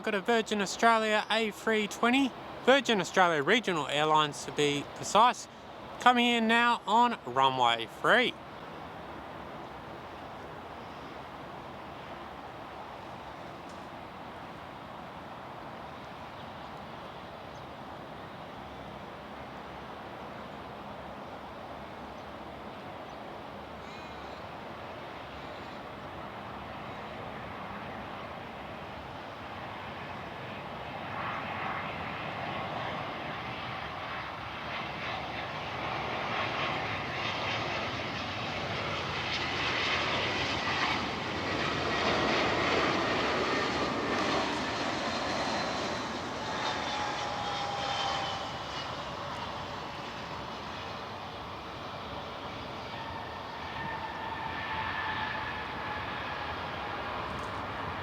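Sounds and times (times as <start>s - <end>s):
jet airliner passing close: 0.0s - 58.0s.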